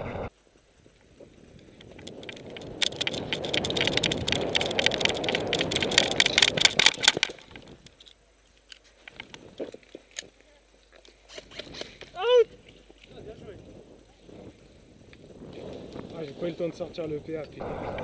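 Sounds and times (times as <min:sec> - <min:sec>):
gear rustling and rattling: 0:00.3 - 0:17.6.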